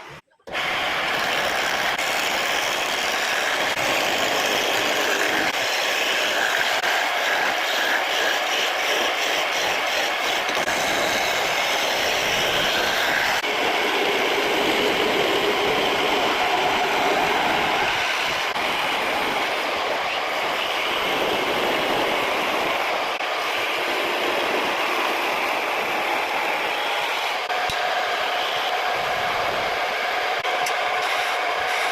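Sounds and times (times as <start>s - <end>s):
lathe tool scraping wood: 0.0s - 29.3s.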